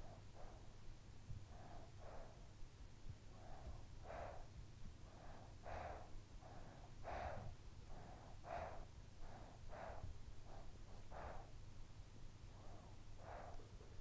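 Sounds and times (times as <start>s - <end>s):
child breathing softly: 0.0s - 14.0s
faint low rumble: 0.0s - 14.0s.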